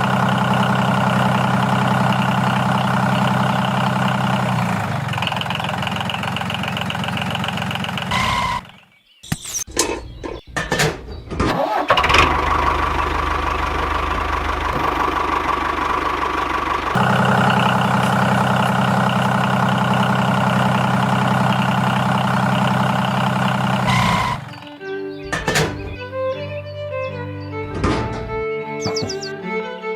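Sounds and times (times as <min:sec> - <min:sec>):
small diesel engine running: 0:00.0 - 0:08.9, 0:11.5 - 0:26.1, 0:27.1 - 0:29.4.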